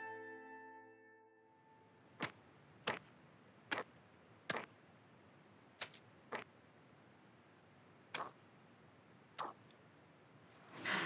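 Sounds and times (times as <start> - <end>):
faint steady hiss: 1.4 - 11.0.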